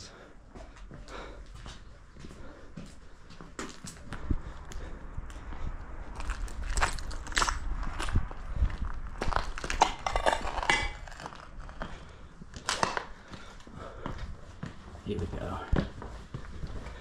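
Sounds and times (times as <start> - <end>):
footsteps crunching over rubble: 0.5 - 17.0.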